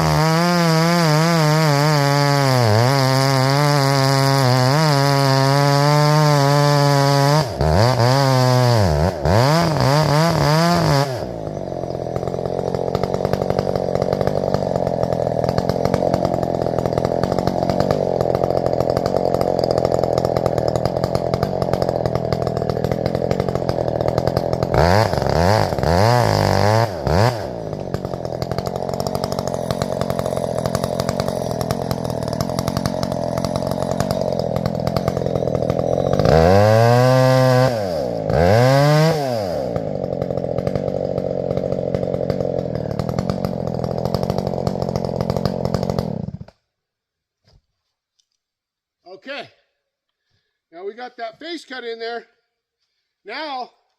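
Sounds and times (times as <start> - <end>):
chainsaw revving and cutting: 0.0 - 46.6.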